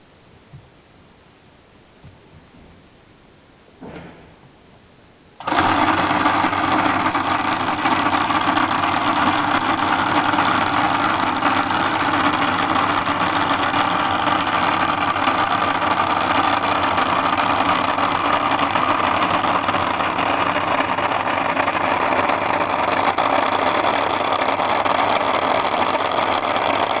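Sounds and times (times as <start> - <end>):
typewriter mechanical whir and rattle: 5.4 - 27.0.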